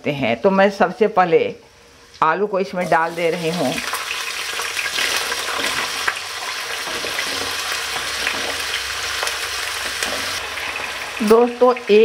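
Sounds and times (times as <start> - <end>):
potatoes sizzling in hot oil: 1.9 - 12.0.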